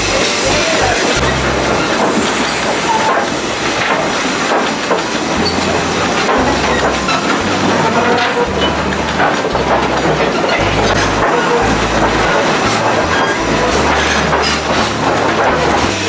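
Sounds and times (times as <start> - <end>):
hissing steam: 0.0 - 16.0
low train rumbles: 0.0 - 16.0
train wheels rushing on rails: 0.0 - 16.0.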